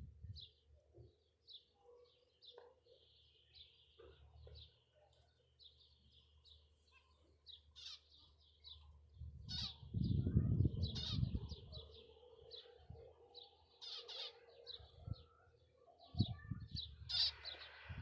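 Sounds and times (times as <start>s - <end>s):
small birds chirping: 0.2s - 18.0s.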